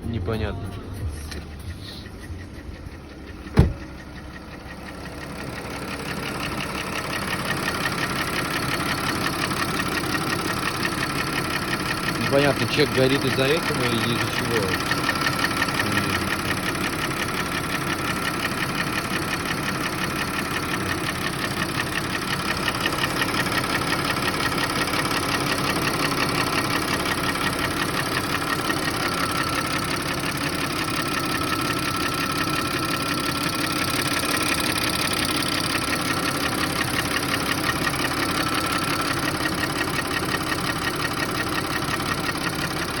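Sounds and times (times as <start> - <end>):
car engine idling with knock: 0.0 - 43.0.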